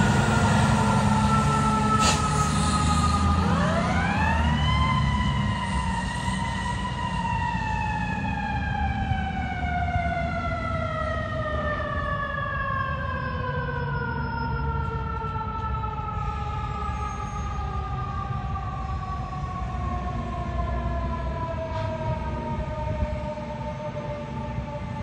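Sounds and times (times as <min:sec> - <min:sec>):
fire engine siren winding down: 0:00.0 - 0:25.0.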